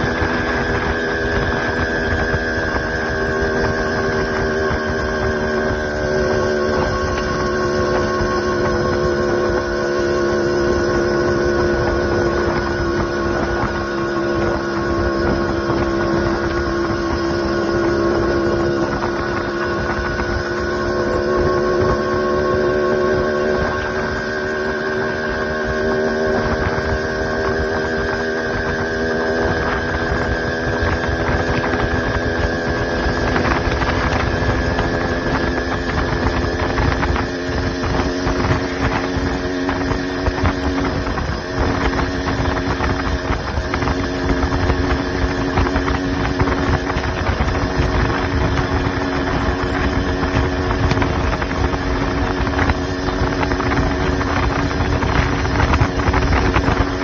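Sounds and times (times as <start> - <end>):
motorized bicycle motor drone: 0.0 - 57.0
wind rushing on microphone: 0.0 - 57.0.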